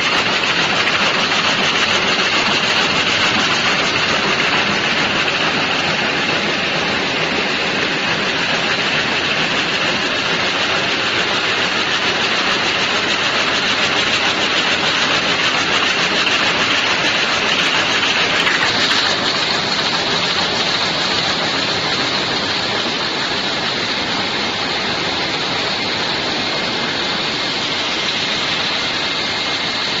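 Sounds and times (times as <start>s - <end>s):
loom clattering: 0.0s - 29.6s.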